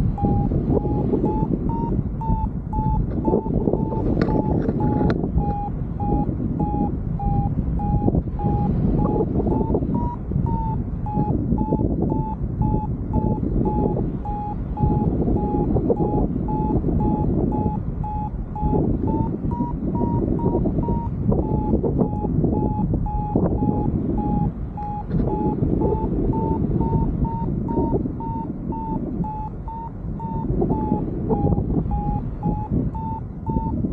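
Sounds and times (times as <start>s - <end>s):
variometer short beeps: 0.0s - 33.9s
wind rumbling on microphone: 0.0s - 33.9s.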